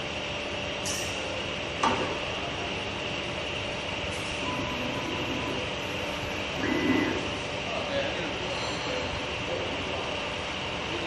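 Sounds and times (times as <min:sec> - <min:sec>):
factory machinery hum: 0:00.0 - 0:11.0.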